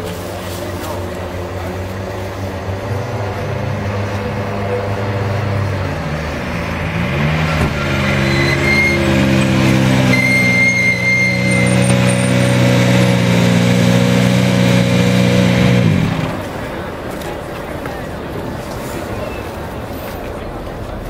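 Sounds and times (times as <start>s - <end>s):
rally car engine running: 0.0s - 17.3s.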